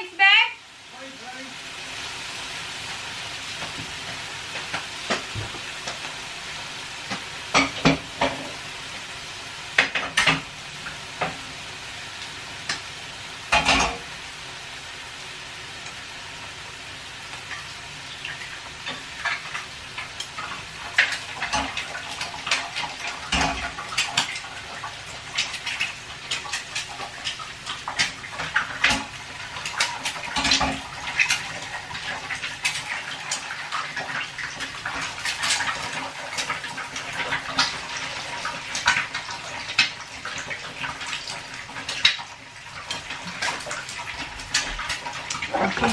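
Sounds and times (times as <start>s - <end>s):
steak sizzling on grill plate: 0.7s - 45.9s.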